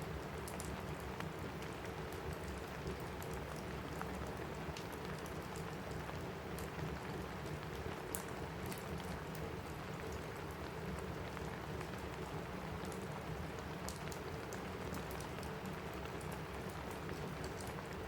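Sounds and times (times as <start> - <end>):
rain falling on a roof: 0.0 - 18.0
wood fire crackling: 0.0 - 18.0.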